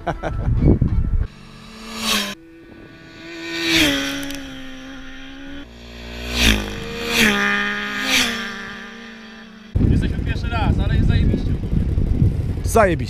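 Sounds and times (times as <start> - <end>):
sport motorcycles passing at speed: 1.3 - 12.9.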